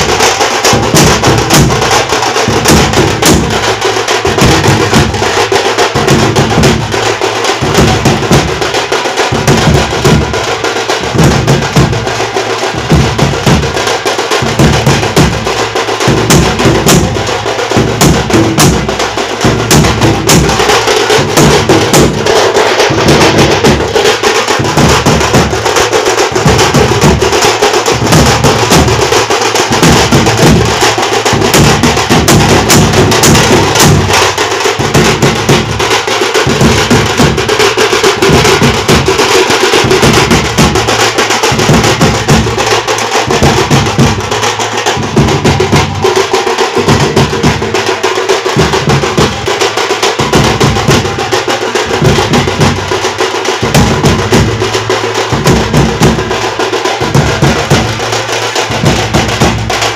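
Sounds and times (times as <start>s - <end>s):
bass drum beats: 0.0s - 59.9s
sharp higher drum strokes: 0.0s - 59.9s.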